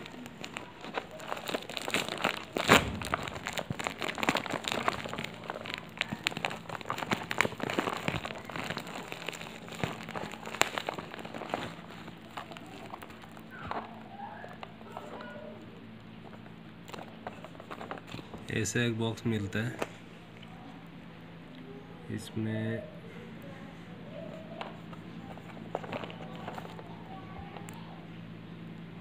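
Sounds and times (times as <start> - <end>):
bubble wrap crinkling: 0.0 - 20.7, 24.0 - 28.1.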